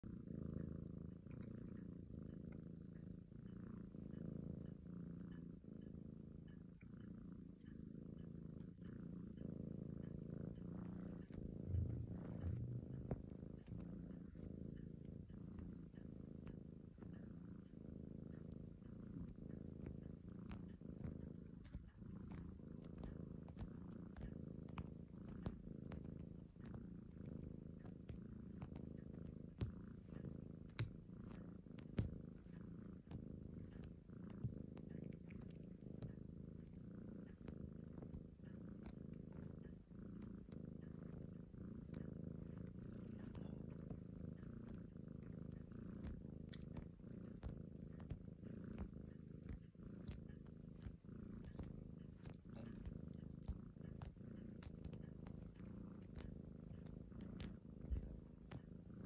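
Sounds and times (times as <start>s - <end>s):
kitten purring: 0.0s - 59.0s
faint clicks: 6.4s - 59.0s.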